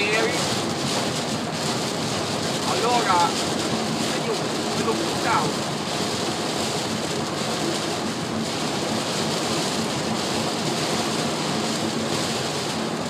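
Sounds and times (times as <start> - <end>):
car running hum: 0.0 - 13.0
heavy rain on car roof: 0.0 - 13.0.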